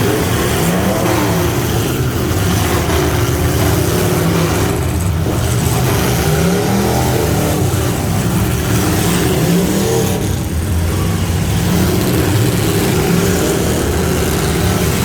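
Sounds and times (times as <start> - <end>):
pickup truck engine revving: 0.0 - 15.0.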